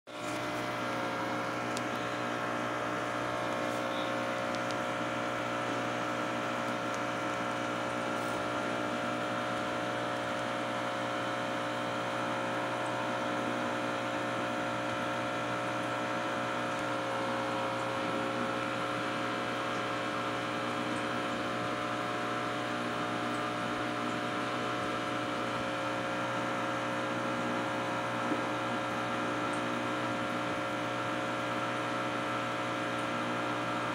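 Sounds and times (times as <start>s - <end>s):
aquarium equipment electric hum: 0.1s - 33.9s.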